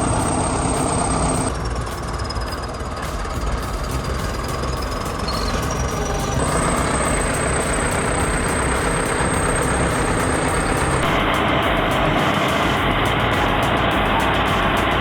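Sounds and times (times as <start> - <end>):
heavy vehicle engine under load: 0.0 - 15.0.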